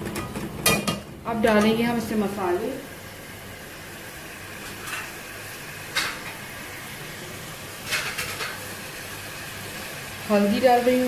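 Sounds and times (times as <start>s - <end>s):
meat and onions sizzling in oil: 0.0s - 11.0s.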